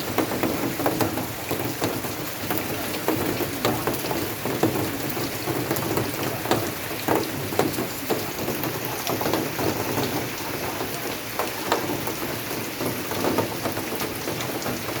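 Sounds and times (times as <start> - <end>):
heavy raindrops striking a surface: 0.0 - 15.0
steady rain falling: 0.0 - 15.0.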